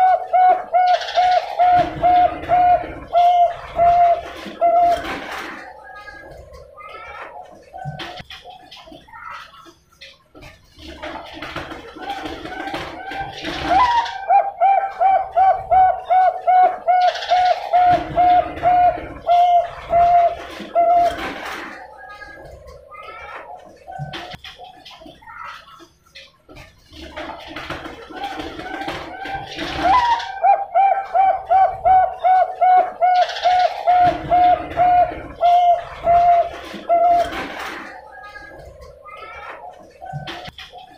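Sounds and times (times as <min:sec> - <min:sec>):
dove cooing: 0:00.0 - 0:08.3, 0:11.6 - 0:24.4, 0:27.1 - 0:40.9.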